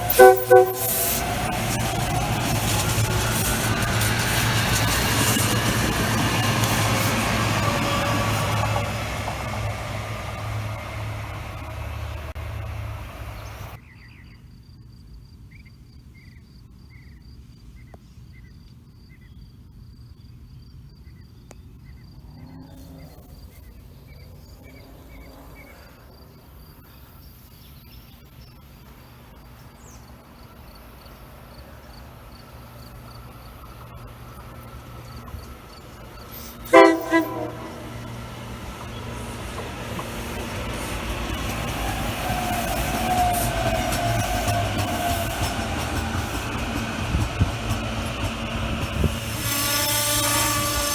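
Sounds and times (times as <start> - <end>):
train rumble: 0.0 - 13.8, 21.9 - 50.9
faint low train rumble: 0.0 - 50.9.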